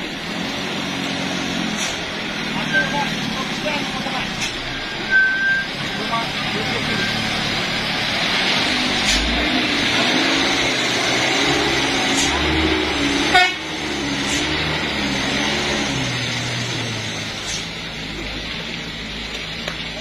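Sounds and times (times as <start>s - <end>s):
truck engine revving: 0.0s - 20.0s
tyres hissing on wet road: 0.0s - 20.0s.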